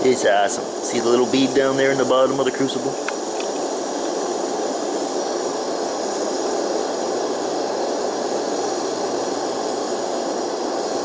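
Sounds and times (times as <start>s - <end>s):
furnace flame roaring: 0.0s - 11.0s.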